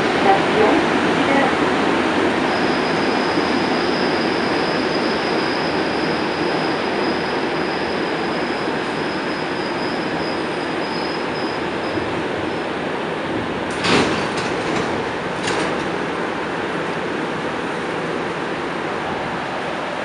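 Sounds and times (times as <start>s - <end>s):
metro car rumble: 0.0s - 20.0s.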